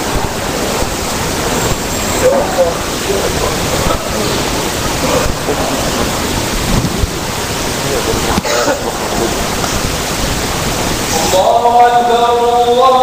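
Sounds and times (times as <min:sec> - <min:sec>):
loud steady hiss: 0:00.0 - 0:13.0.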